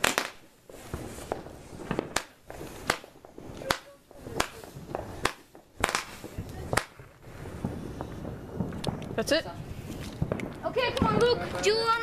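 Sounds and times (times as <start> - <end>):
firework pops: 0.0 - 12.0.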